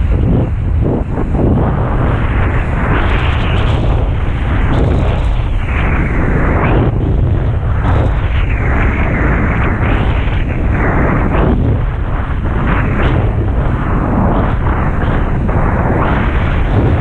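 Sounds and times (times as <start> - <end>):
rushing water and spray: 0.0 - 17.0
wind buffeting microphone: 0.0 - 17.0.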